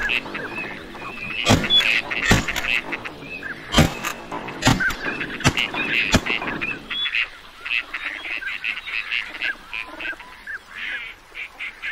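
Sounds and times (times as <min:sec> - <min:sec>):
ducks calling: 0:00.0 - 0:11.9.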